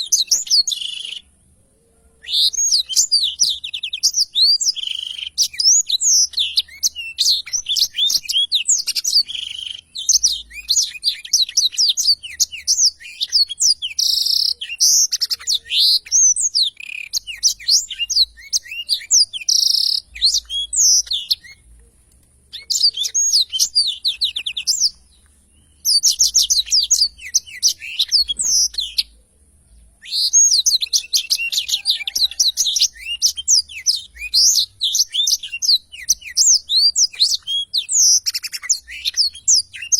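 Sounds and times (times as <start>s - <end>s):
canary singing rolling song: 0.0s - 39.9s.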